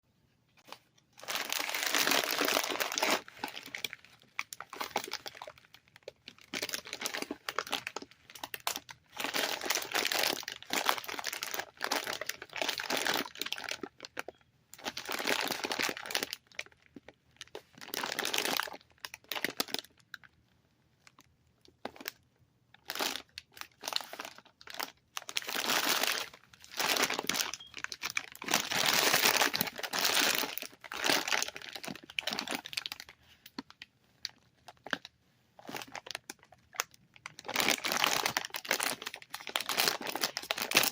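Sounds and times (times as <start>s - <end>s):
packaging crinkling: 0.6s - 20.4s, 22.8s - 40.9s.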